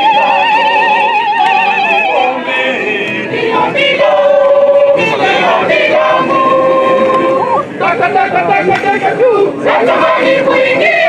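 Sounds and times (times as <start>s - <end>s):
mixed choir singing: 0.0s - 11.0s.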